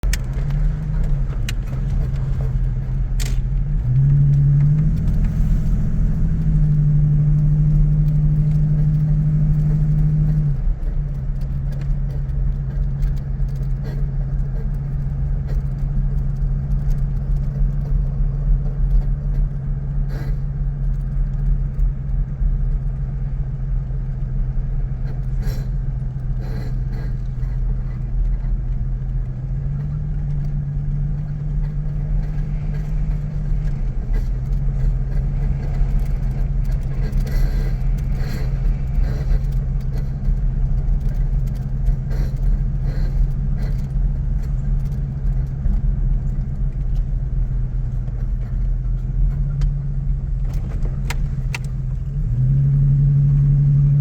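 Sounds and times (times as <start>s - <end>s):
pickup truck engine droning: 0.0s - 54.0s.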